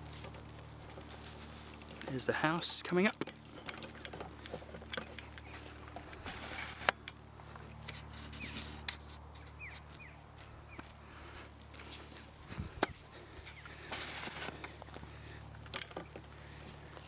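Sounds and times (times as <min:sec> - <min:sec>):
footsteps through grass: 0:00.0 - 0:17.0.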